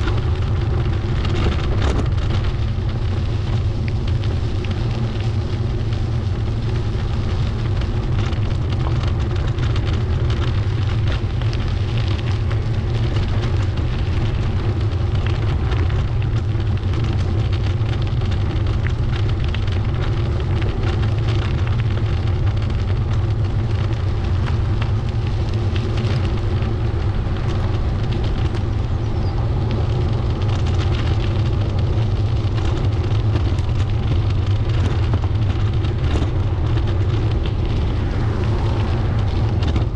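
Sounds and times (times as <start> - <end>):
bicycle tyre noise: 0.0 - 39.9
wind rumbling on microphone: 0.0 - 39.9.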